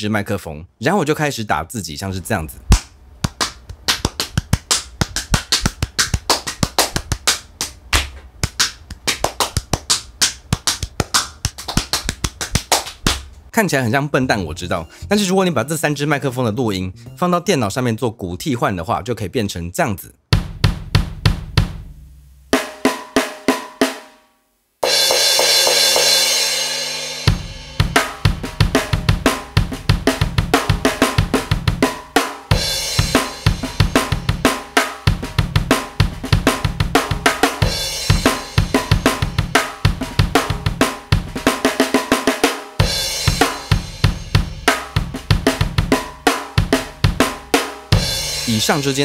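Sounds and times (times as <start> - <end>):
drum kit beat: 2.6 - 13.5, 14.3 - 15.4, 20.3 - 24.1, 24.8 - 49.0.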